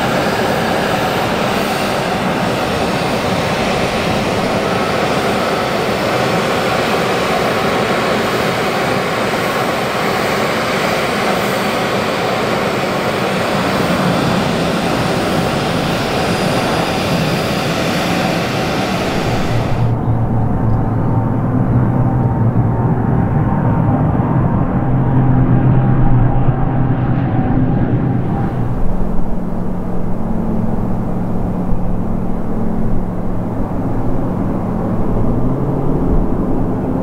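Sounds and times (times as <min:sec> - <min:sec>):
jet engines running: 0:00.0 - 0:37.0.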